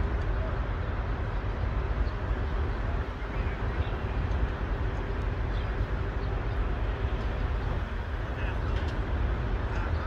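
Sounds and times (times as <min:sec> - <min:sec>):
engines and traffic rumble: 0:00.0 - 0:10.0.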